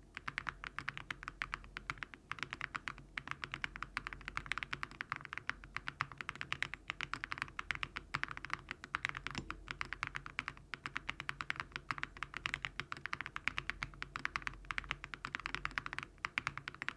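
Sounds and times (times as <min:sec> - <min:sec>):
fast typing on mechanical keyboard: 0:00.2 - 0:16.9.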